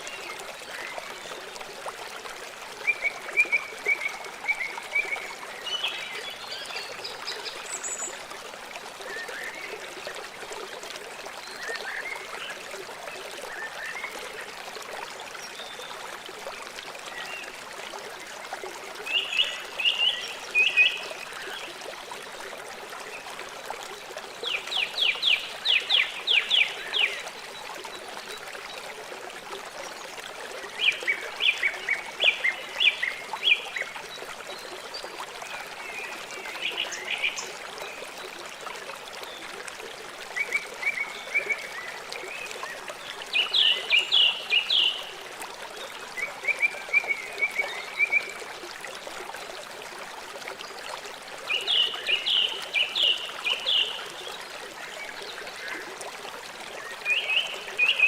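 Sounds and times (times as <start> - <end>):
river running: 0.0 - 58.0.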